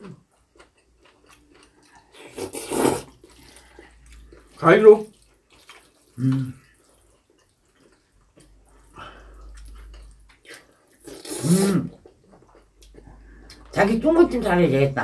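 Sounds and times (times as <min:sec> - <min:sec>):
wet slurping and chewing: 0:00.3 - 0:13.7.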